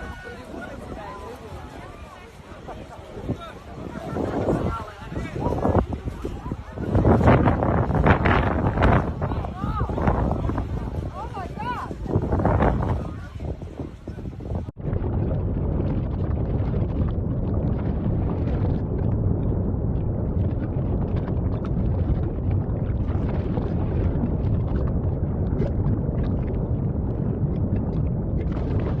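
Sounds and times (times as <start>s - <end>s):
volcanic eruption rumbling: 0.0s - 29.0s
wind buffeting microphone: 0.0s - 29.0s.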